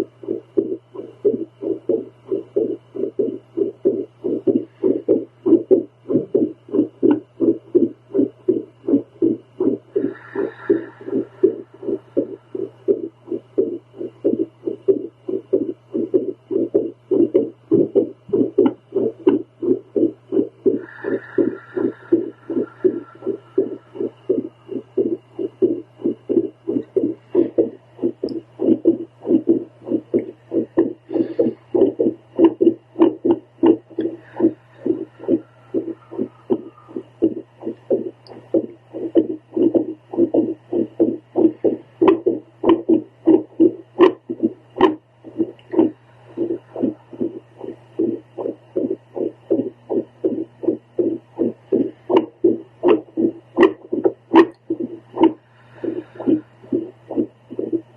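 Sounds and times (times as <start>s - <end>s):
pulsing heartbeat whooshes: 0.0s - 57.9s
steady low hum: 0.0s - 57.9s.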